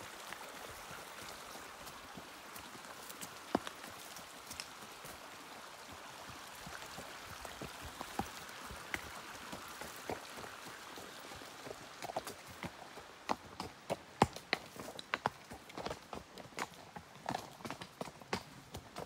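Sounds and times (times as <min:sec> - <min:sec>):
creek babbling: 0:00.0 - 0:16.8.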